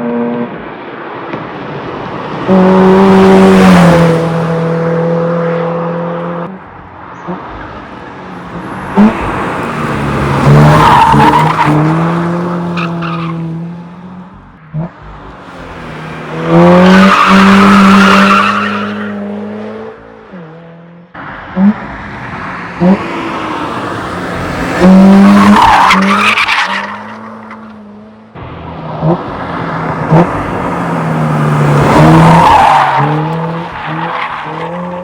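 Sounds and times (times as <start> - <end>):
car engine revving: 2.1 - 35.0.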